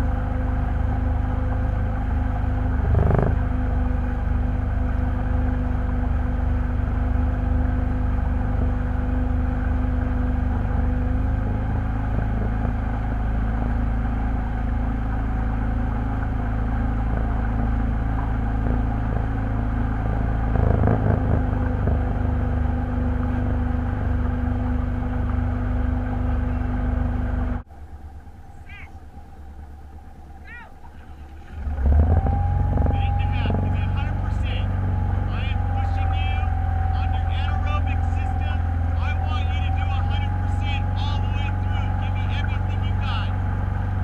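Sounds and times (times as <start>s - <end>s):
loud engine rumble: 0.0s - 44.0s.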